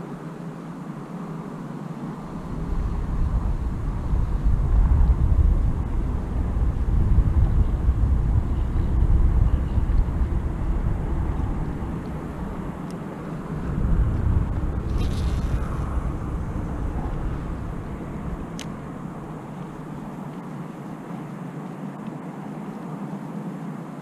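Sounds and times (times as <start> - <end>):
wind buffeting microphone: 1.2 - 21.8.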